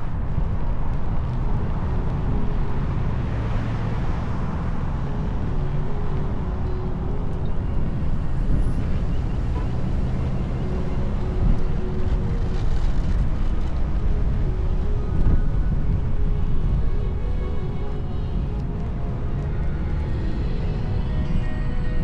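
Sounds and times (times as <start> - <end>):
wind and road rumble: 0.0 - 22.0.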